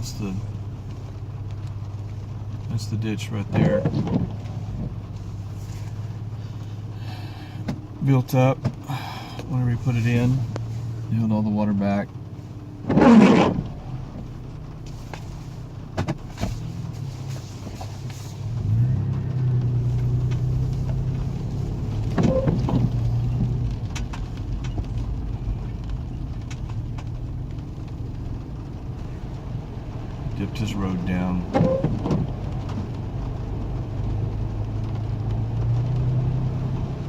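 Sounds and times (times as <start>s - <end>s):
car engine: 0.0s - 37.0s
road noise inside moving car: 0.0s - 37.0s.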